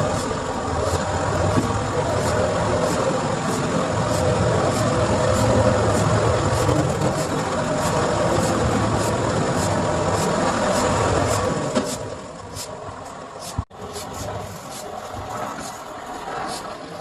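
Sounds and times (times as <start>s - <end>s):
car engine running under load: 0.0s - 17.0s.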